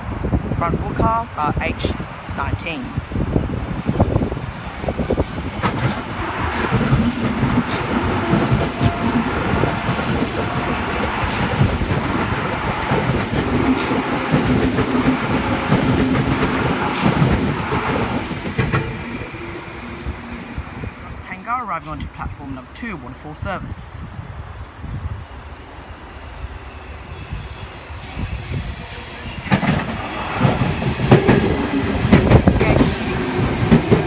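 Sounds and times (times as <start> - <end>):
electric train rolling past: 0.0 - 23.2, 24.3 - 34.0.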